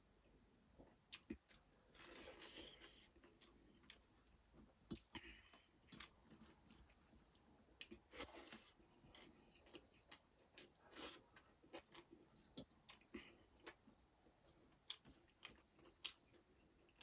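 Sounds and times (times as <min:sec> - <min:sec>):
steady high-pitched hiss: 0:00.0 - 0:17.0.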